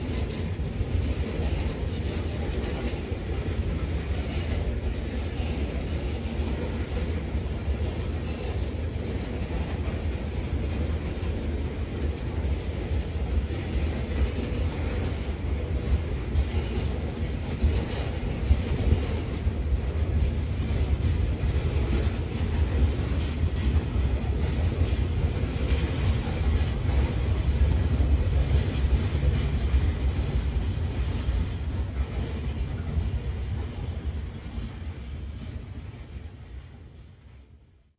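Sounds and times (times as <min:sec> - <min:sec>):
freight train rolling past: 0:00.0 - 0:37.9.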